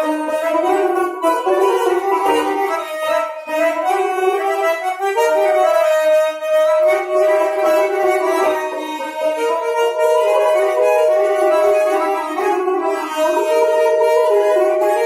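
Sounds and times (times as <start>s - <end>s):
button accordion: 0.0s - 15.0s
lute melody: 0.0s - 15.0s.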